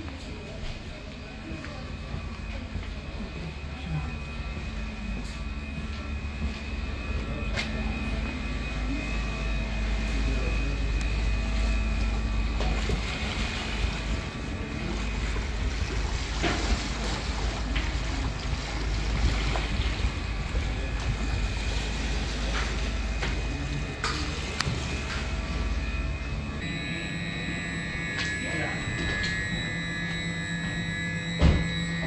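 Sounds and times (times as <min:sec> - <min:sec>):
ferry engine rumble: 0:00.0 - 0:32.0
water rushing along hull: 0:01.4 - 0:32.0.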